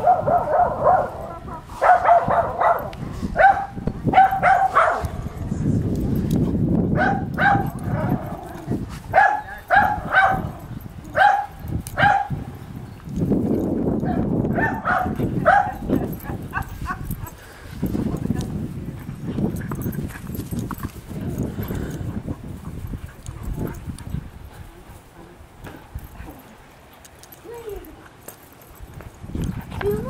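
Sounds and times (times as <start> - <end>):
dogs barking in play: 0.0 - 5.3, 6.9 - 12.6, 13.5 - 28.7.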